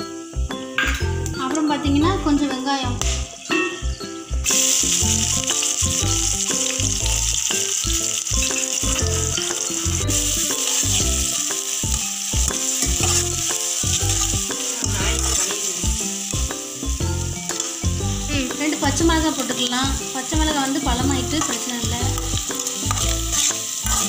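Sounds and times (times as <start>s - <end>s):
background music: 0.0s - 24.0s
onions sizzling in oil: 0.0s - 24.0s.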